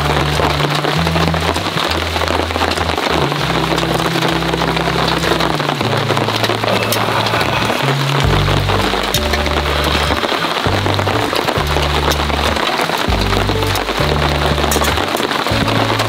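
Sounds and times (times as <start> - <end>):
heavy rain pattering on tarp: 0.0 - 16.0
soft bass music: 0.0 - 16.0.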